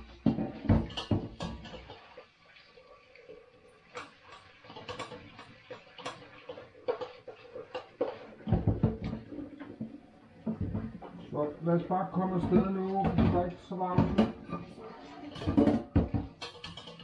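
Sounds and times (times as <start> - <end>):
pot clinking against sink: 0.0 - 2.1, 3.9 - 11.3, 12.1 - 17.0.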